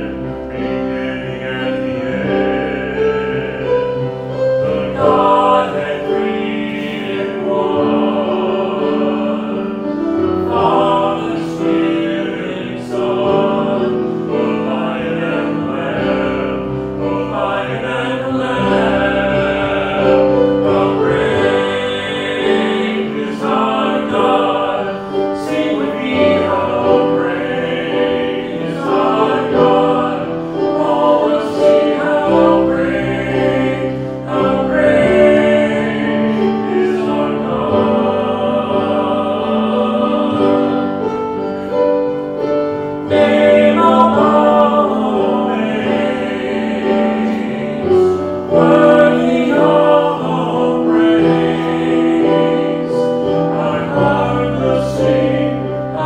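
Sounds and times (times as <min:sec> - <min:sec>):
congregation singing a hymn: 0:00.0 - 0:56.0
men leading singing: 0:00.0 - 0:56.0.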